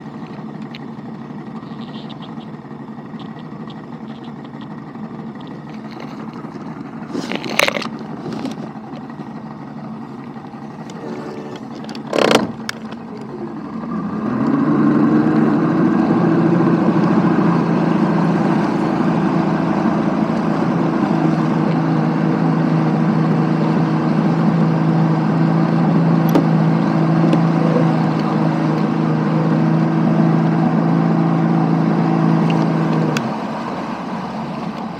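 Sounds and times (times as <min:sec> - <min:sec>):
engine starting and running: 0:00.0 - 0:34.9.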